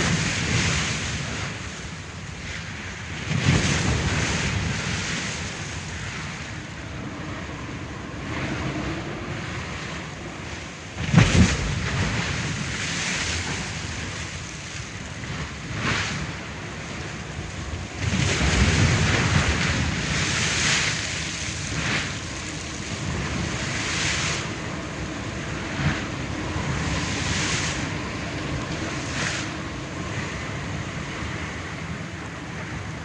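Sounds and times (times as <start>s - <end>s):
sea waves breaking on shore: 0.0s - 33.0s.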